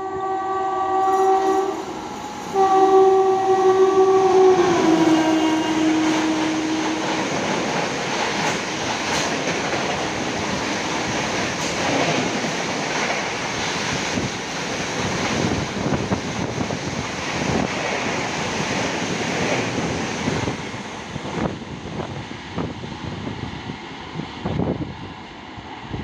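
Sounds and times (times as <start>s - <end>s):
express train passing at speed: 0.0s - 26.0s.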